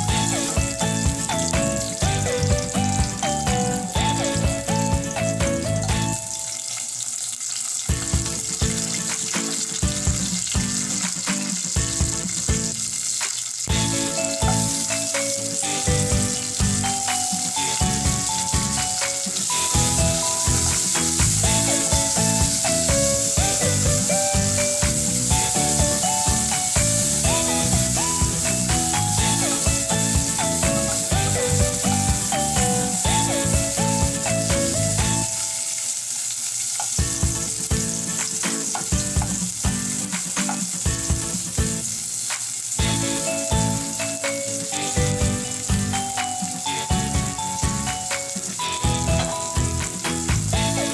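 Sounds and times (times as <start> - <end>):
background music with a beat: 0.0 - 6.6, 7.9 - 35.6, 36.8 - 50.9
garlic sizzling in a saucepan: 0.0 - 50.9.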